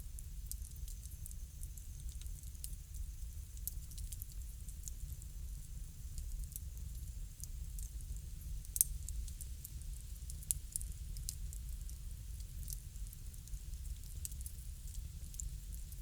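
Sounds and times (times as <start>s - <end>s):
low rumble of fire: 0.0s - 16.0s.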